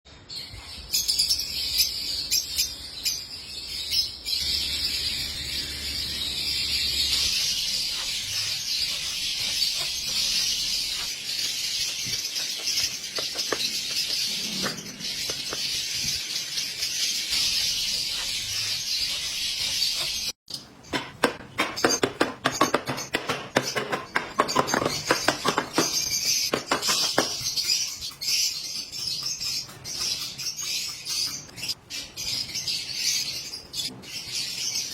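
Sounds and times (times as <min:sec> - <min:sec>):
lovebirds chattering: 0:03.7 - 0:34.9.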